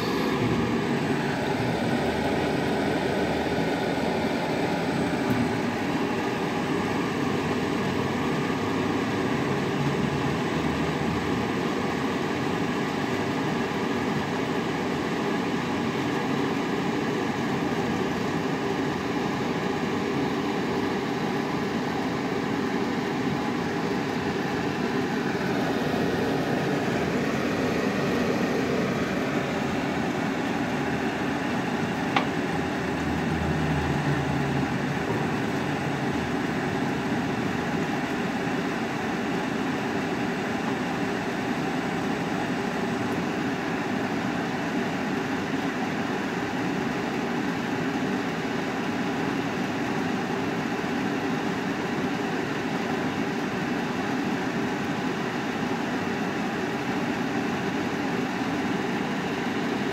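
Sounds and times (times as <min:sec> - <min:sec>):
pipe-cutting machine humming: 0:00.0 - 0:53.2.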